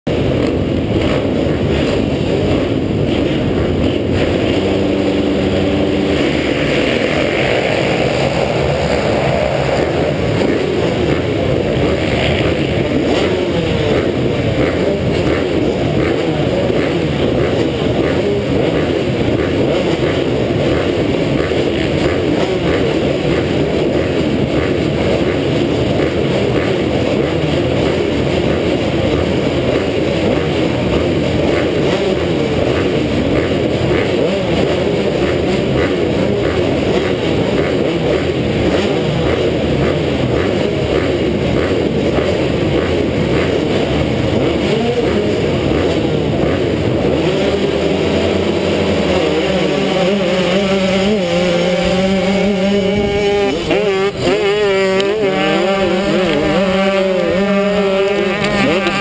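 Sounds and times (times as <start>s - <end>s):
two-stroke motocross bikes running: 0.0s - 59.0s.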